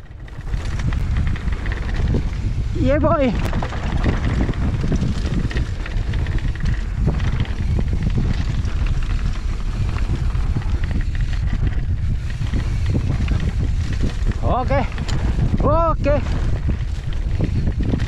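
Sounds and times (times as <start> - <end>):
bike clicks and rattles: 0.0 - 18.0
bike tyre noise on dirt: 0.0 - 18.0
wind rumble on microphone: 0.0 - 18.0.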